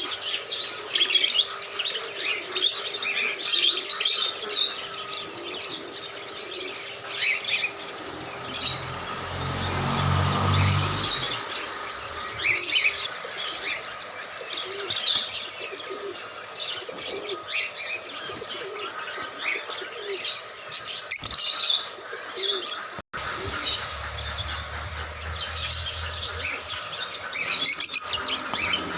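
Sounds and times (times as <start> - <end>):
birds chirping: 0.0 - 28.9
dove-like cooing: 1.0 - 20.8, 21.8 - 28.9.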